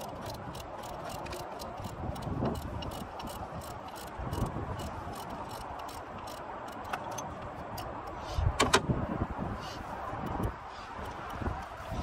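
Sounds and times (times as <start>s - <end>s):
ratchet wrench clicking: 0.0s - 8.2s, 10.2s - 11.8s.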